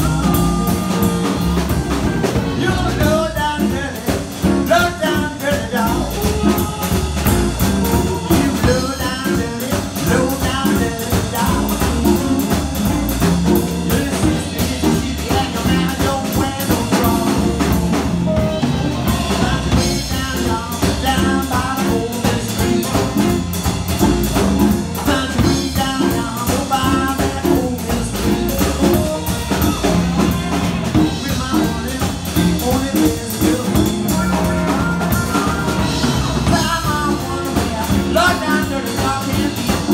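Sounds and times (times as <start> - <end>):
amplified blues harmonica: 0.0 - 39.9
drum kit: 0.0 - 39.9
electric bass: 0.0 - 39.9
electric guitar: 0.0 - 39.9.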